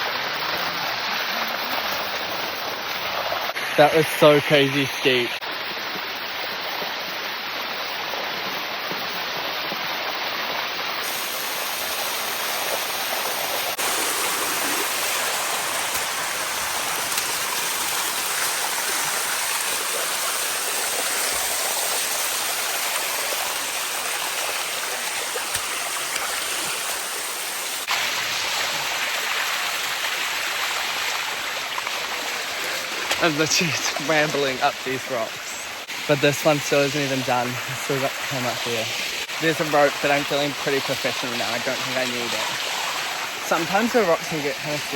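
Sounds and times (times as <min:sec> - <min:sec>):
waterfall rushing: 0:00.0 - 0:05.4, 0:10.9 - 0:31.6, 0:32.3 - 0:44.9.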